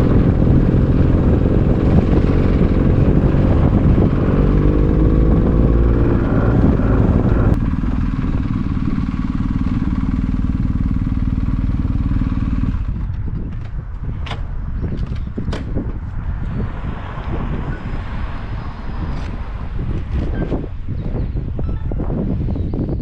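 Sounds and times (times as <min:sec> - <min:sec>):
motorcycle engine rumbling: 0:00.0 - 0:23.0.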